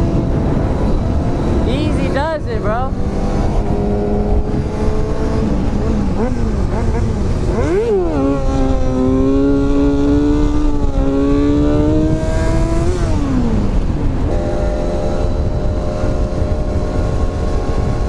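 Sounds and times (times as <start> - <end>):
motorcycle engine revving: 0.0 - 18.0
wind rumble: 0.0 - 18.0.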